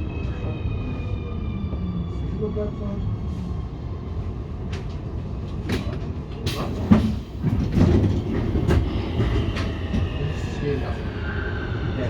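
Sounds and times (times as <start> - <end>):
subway train running rumble: 0.0 - 12.0.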